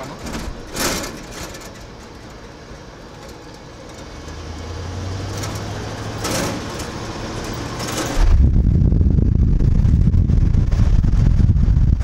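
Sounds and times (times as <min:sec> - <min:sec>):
truck engine from inside cab: 0:00.0 - 0:12.0.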